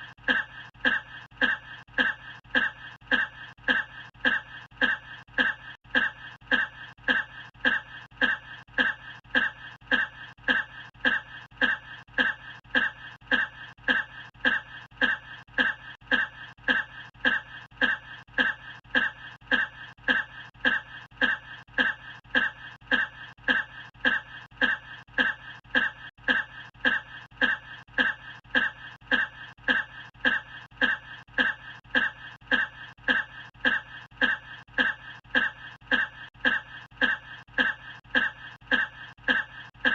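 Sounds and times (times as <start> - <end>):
person coughing: 0.0 - 39.9.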